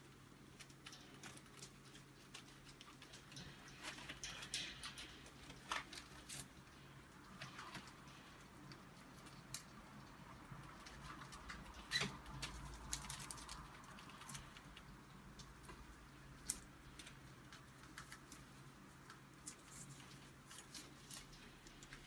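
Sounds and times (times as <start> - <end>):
rats climbing wire cage: 0.0 - 22.0
rats nibbling: 0.0 - 22.0.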